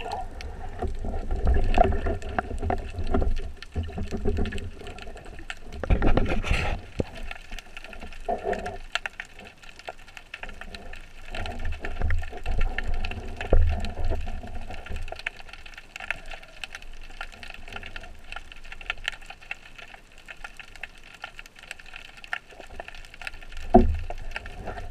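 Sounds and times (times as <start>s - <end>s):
low rumbling water movement: 0.0s - 24.9s
underwater watery rush: 0.0s - 24.9s.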